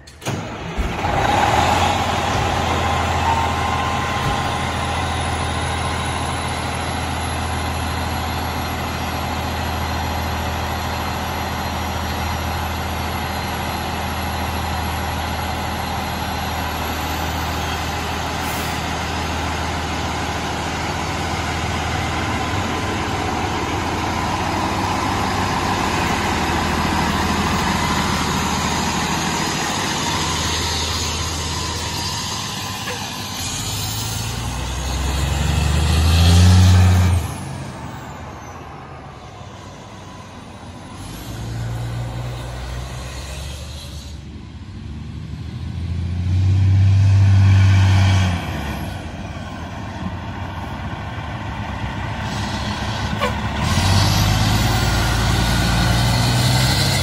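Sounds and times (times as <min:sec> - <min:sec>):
diesel engine starting and running: 0:00.0 - 0:57.0.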